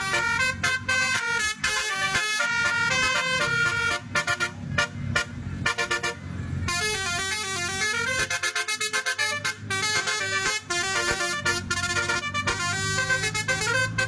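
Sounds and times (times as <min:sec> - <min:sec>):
bus engine rumble: 0:00.0 - 0:14.0
musical bus horn tune: 0:00.0 - 0:14.0.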